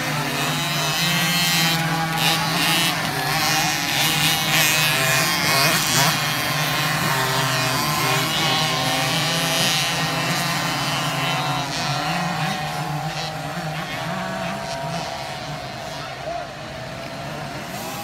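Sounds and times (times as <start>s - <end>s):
motocross bikes racing: 0.0s - 18.0s.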